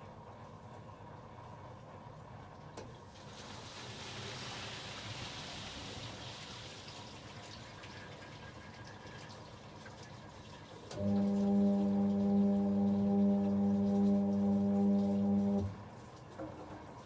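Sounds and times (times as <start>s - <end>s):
washing machine hum: 0.0s - 17.0s.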